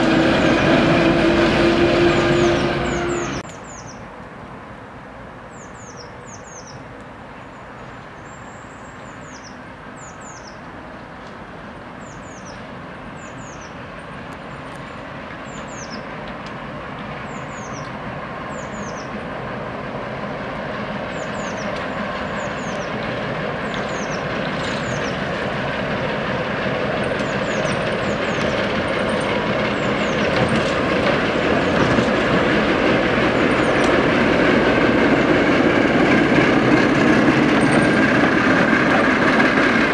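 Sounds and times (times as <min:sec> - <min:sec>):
diesel locomotive engine running: 0:00.0 - 0:03.5, 0:10.8 - 0:39.9.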